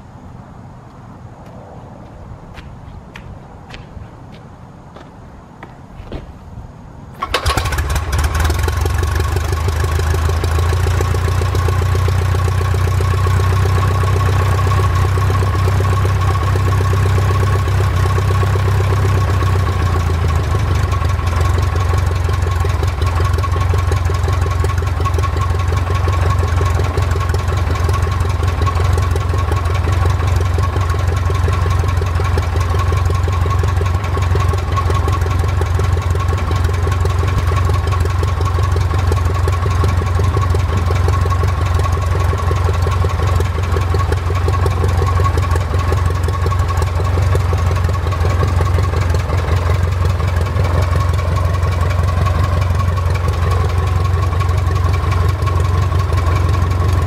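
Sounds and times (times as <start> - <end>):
aircraft engine idling: 7.2 - 57.0.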